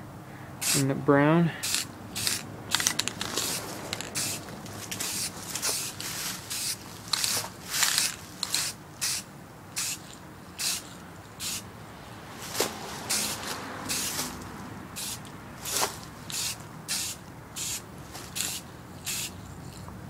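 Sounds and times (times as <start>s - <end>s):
spray paint can hissing: 0.6s - 0.9s, 1.6s - 11.7s, 13.1s - 14.4s, 15.0s - 19.9s.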